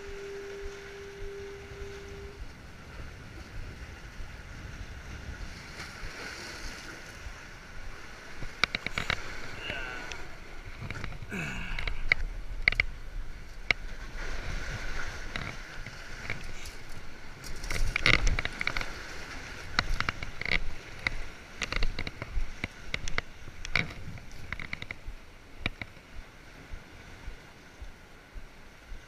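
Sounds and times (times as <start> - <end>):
waves washing against rocks: 0.0 - 25.9.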